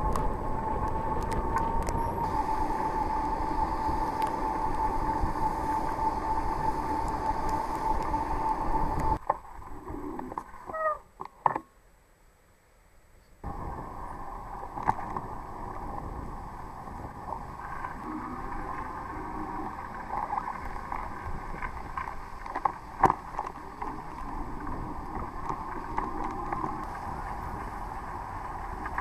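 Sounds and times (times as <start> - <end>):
wind on microphone: 0.0 - 9.2, 13.4 - 29.0.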